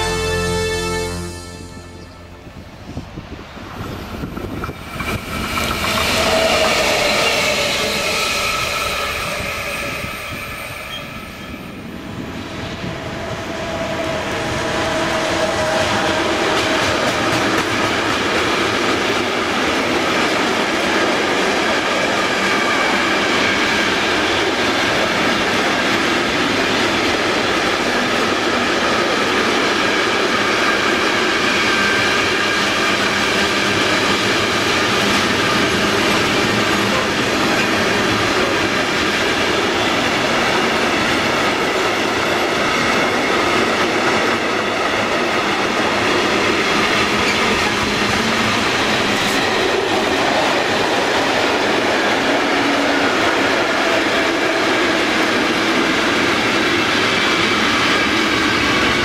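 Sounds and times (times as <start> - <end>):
train wheels on rails: 2.7 - 59.0.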